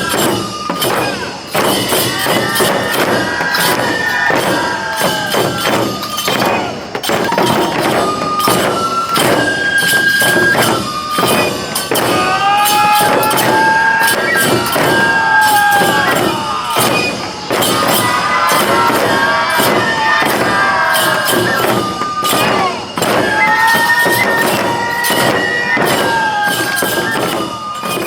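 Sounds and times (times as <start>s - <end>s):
bamboo flutes playing melody: 0.0s - 28.0s
taiko drums beating: 0.0s - 28.0s.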